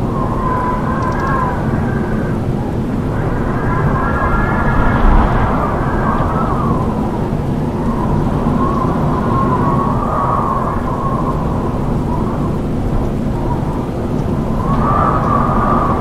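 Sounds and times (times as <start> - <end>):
howling wind: 0.0 - 16.0.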